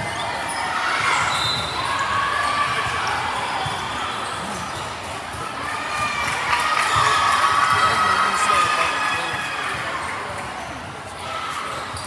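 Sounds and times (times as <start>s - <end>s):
hubbub of voices: 0.0s - 12.0s.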